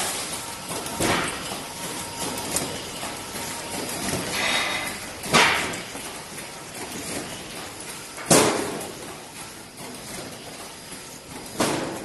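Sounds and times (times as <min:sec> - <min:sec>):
cartoning machine clatter: 0:00.0 - 0:12.0.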